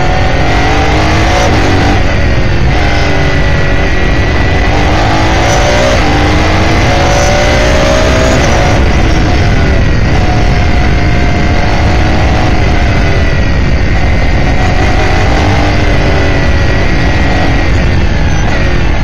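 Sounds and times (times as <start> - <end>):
race car engine from cockpit: 0.0 - 19.0
wind and road noise: 0.0 - 19.0.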